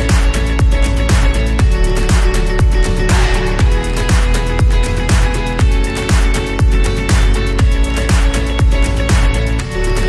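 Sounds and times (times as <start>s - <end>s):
music with deep beat: 0.0s - 10.0s.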